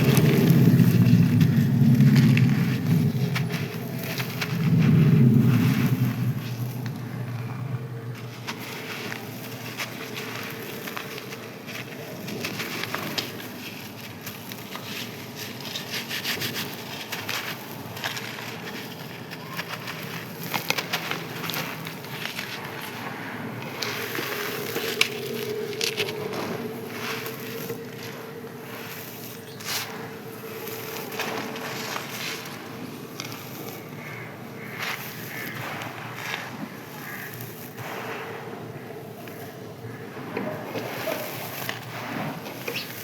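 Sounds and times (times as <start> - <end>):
dry sand-clay crunching: 0.0 - 43.0.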